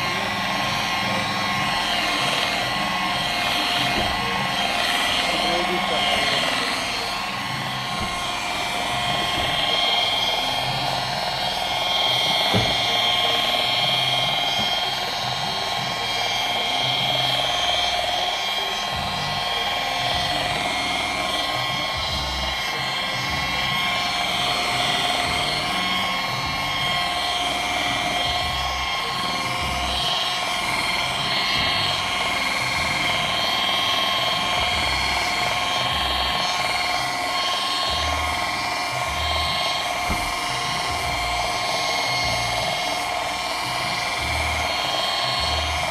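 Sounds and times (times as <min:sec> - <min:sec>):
electric polisher whining: 0:00.0 - 0:45.9.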